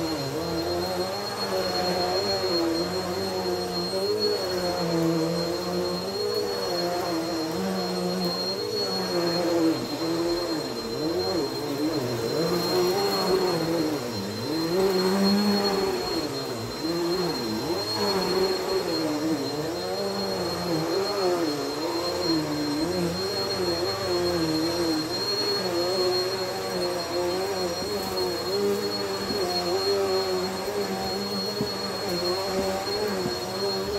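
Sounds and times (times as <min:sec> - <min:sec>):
vacuum cleaner on carpet: 0:00.0 - 0:33.9.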